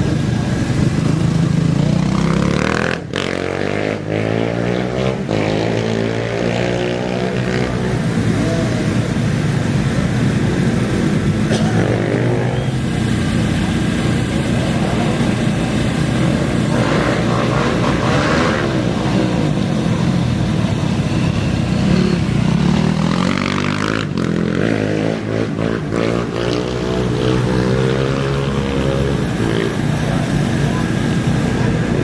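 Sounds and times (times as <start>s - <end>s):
race engines revving: 0.0s - 32.0s.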